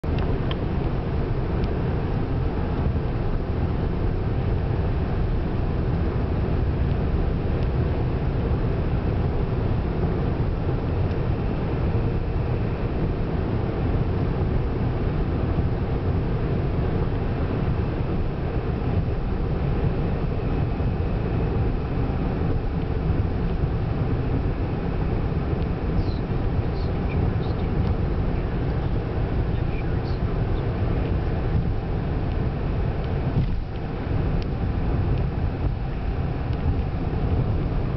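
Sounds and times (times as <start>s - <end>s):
strong wind: 0.0s - 37.9s
tyre and wind rumble: 0.0s - 37.9s.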